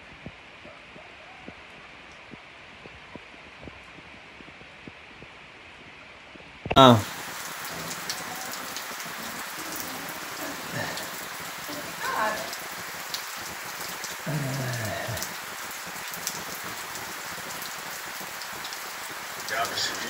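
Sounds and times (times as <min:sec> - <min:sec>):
heavy rain on corrugated roof: 0:00.0 - 0:20.0.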